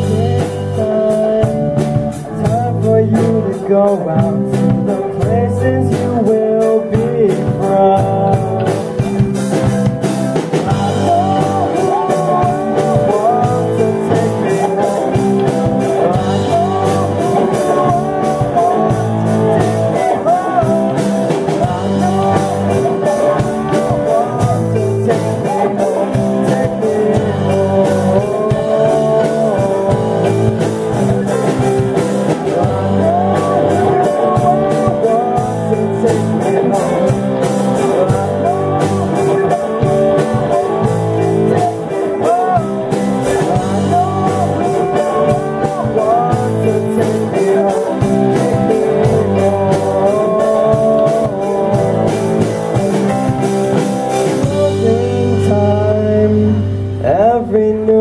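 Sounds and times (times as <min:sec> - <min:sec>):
bass guitar: 0:00.0 - 0:58.0
drum kit: 0:00.0 - 0:58.0
electric guitars: 0:00.0 - 0:58.0
lead singer vocal: 0:00.0 - 0:58.0.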